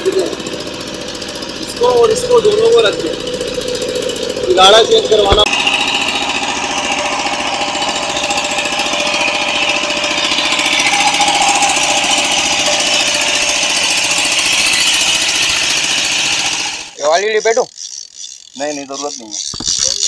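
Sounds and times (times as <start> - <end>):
boat engine chugging: 0.0 - 20.0.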